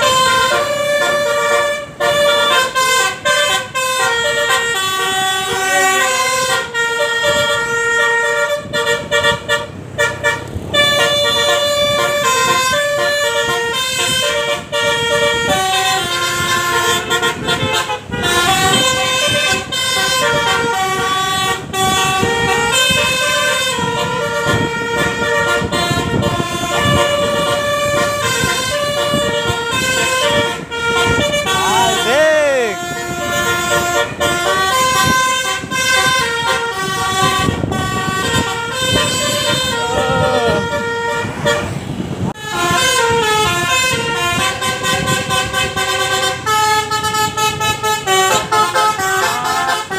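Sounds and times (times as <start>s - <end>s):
bus air horns playing a melody: 0.0s - 49.9s.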